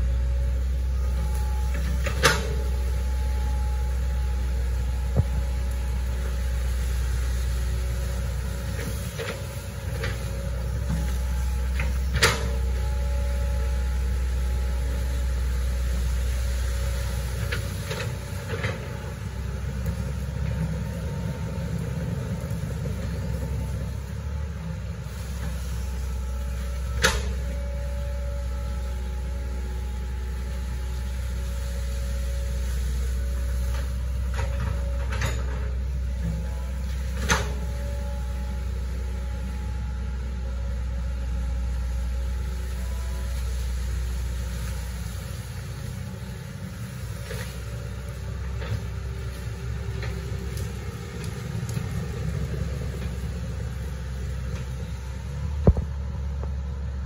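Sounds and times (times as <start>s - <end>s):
excavator diesel engine rumble: 0.0s - 57.0s.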